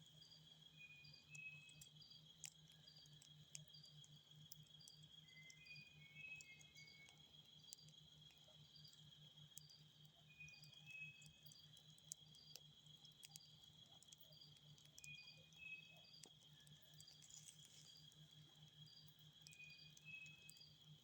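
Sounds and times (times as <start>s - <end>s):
scattered ticks: 0.0s - 21.0s.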